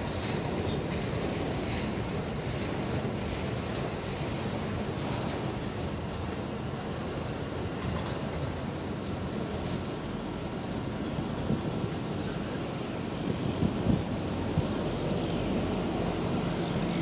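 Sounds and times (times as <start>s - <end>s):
steel wheels on rails: 0.0s - 17.0s.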